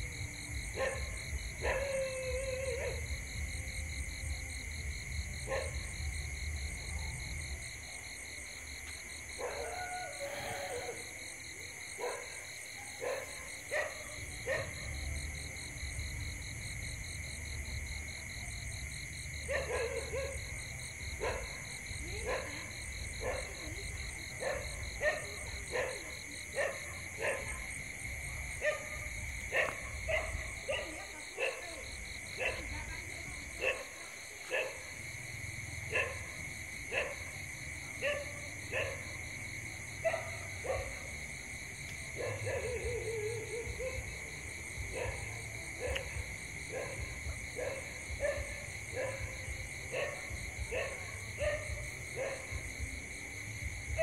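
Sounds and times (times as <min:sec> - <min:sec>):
distant dogs barking: 0:00.6 - 0:03.5, 0:05.3 - 0:07.2, 0:08.6 - 0:15.3, 0:19.4 - 0:54.0.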